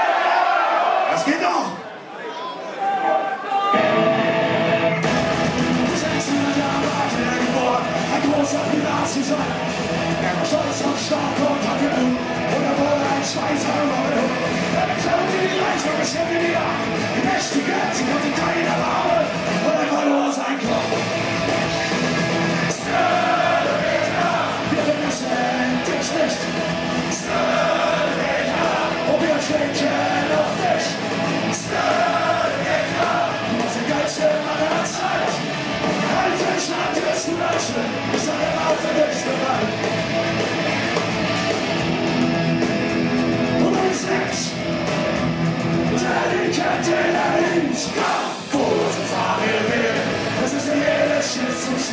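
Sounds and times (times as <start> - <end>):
singer shouting vocals: 0.0 - 4.0, 5.8 - 21.0, 22.6 - 39.8, 43.6 - 44.7, 45.9 - 51.9
distorted electric guitars: 3.7 - 51.9
bass and drums: 3.8 - 51.9.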